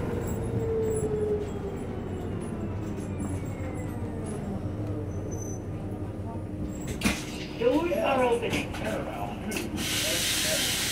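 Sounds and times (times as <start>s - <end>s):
bus engine low rumble: 0.0s - 10.9s.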